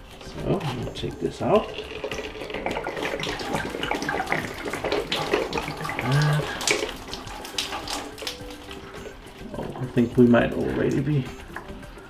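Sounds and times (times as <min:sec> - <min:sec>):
water splashing from pipe: 0:00.0 - 0:12.0.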